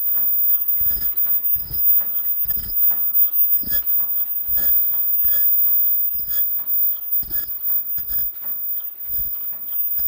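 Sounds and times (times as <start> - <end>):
machine rhythmic mechanical clack: 0.0 - 10.0.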